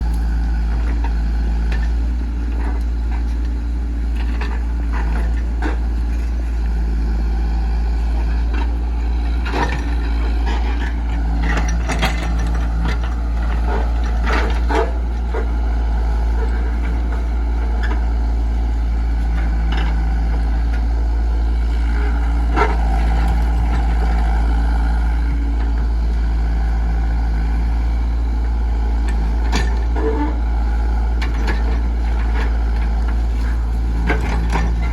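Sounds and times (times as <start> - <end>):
excavator diesel engine rumbling: 0.0 - 34.9.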